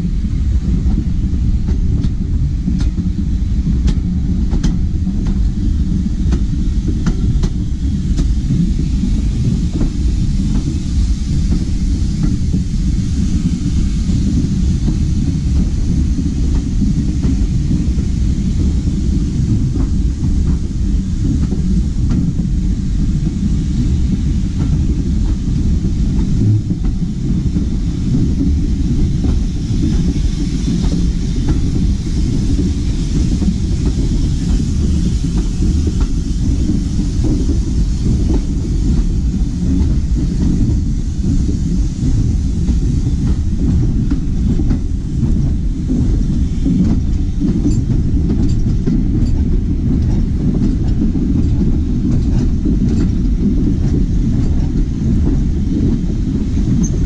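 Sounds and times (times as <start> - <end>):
train rumble: 0.0 - 57.0
wheels clicking on track: 0.6 - 57.0.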